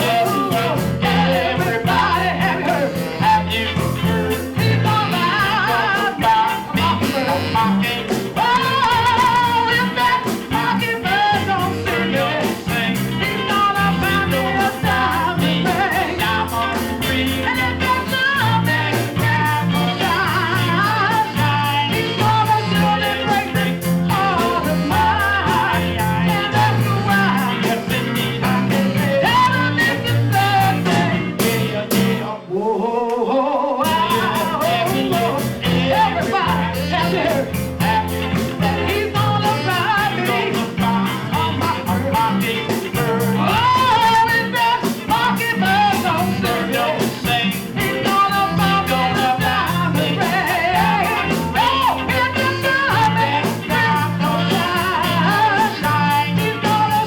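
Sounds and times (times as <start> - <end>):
rhythm and blues band playing: 0.0 - 32.6, 33.8 - 57.0
woman singing: 0.0 - 57.0.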